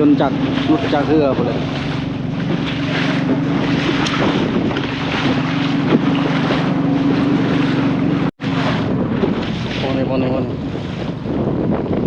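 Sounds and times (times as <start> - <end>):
boat engine running: 0.0 - 12.0
water slapping against hull: 0.0 - 12.0
wind buffeting microphone: 0.0 - 12.0.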